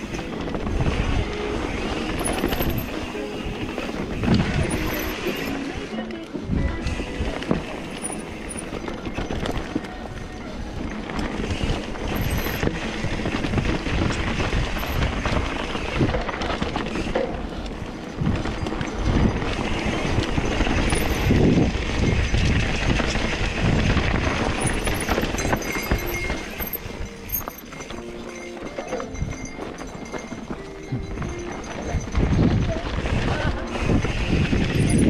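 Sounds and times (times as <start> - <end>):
bike rattling: 0.0 - 35.0.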